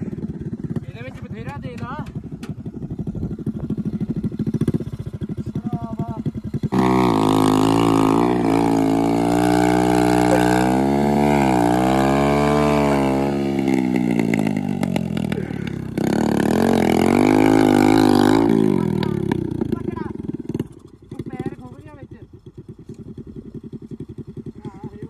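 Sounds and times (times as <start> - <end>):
small motorcycle engine revving: 2.2 - 25.0.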